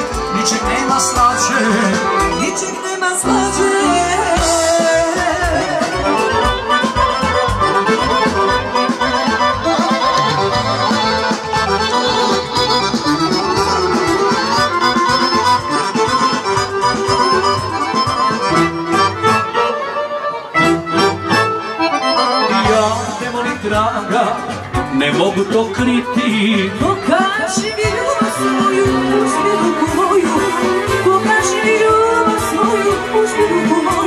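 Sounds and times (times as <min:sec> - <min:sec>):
accordion playing fast: 0:00.0 - 0:34.0.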